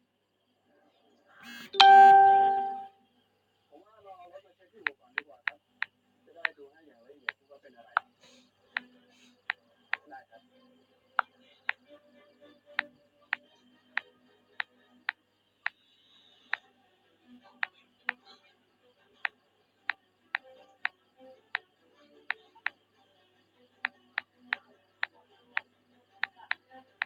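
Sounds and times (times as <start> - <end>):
faint background music: 0.0 - 27.0.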